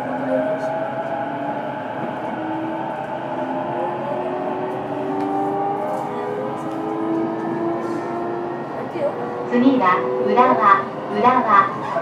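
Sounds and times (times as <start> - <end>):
wheels rumbling on rails: 0.0 - 12.0.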